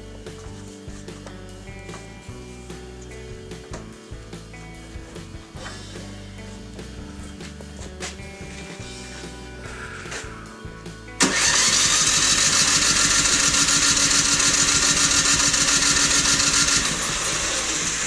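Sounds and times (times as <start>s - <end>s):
snowblower engine running: 1.7s - 18.0s.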